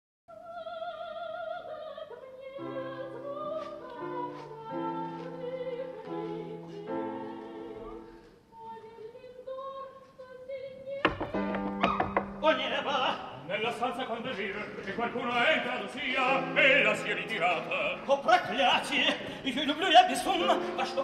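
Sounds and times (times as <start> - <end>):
opera singing: 0.3 - 21.0.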